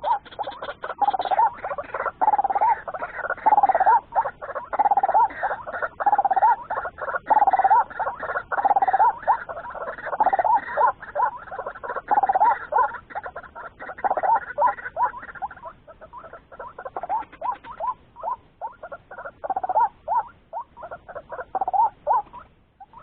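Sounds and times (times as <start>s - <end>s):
waterhen harsh croaking calls: 0.0s - 23.0s.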